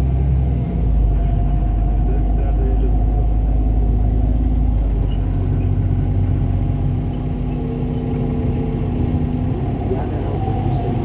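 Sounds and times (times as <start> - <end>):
bus engine hum: 0.0 - 11.0.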